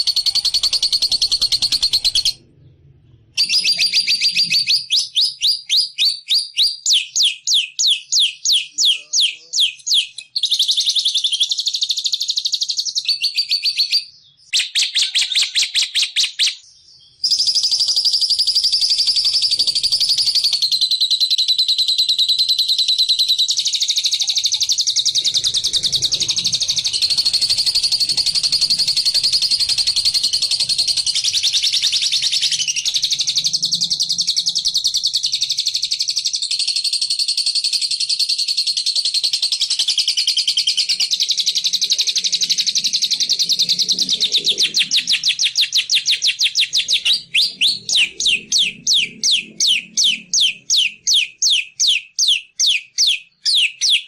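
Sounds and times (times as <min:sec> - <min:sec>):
songbird chattering trill: 0:00.0 - 0:02.4, 0:03.4 - 0:36.9, 0:38.5 - 0:54.0.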